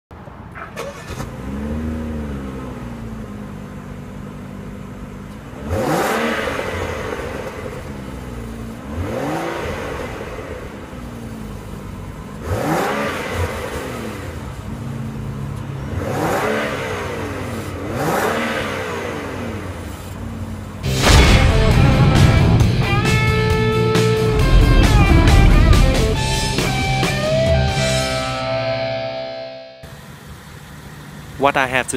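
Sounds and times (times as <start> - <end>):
car engine starting and revving: 0.4 - 28.3.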